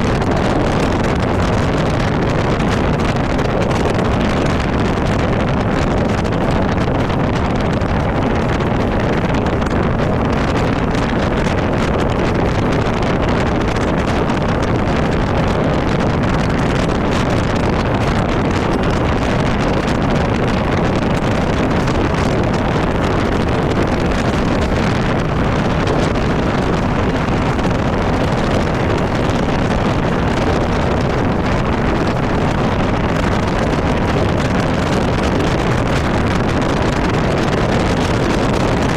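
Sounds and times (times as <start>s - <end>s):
outboard motor running: 0.0s - 38.9s
wind buffeting microphone: 0.0s - 38.9s.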